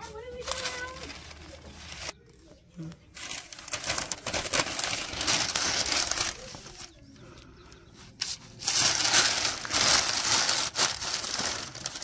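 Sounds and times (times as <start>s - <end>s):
newspaper rustling and crinkling: 0.0s - 2.2s, 3.1s - 7.0s, 8.1s - 12.0s.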